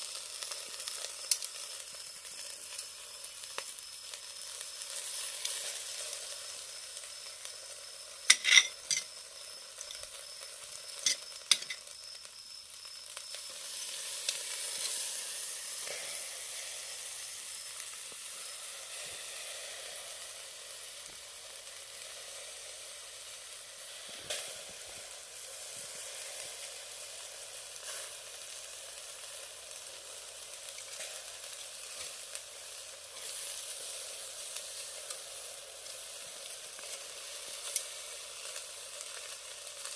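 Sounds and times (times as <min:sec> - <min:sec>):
food sizzling on a grill: 0:00.0 - 0:39.9.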